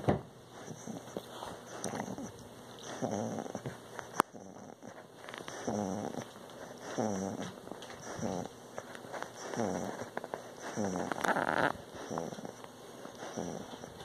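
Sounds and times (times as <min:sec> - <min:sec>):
dog groaning: 0:00.5 - 0:14.0.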